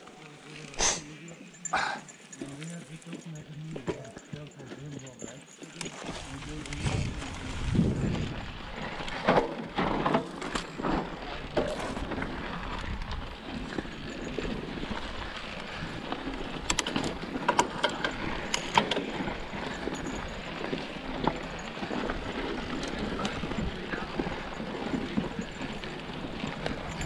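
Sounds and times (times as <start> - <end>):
bike rattling over rocks: 0.0 - 27.0
bike tyres on loose gravel: 0.0 - 27.0.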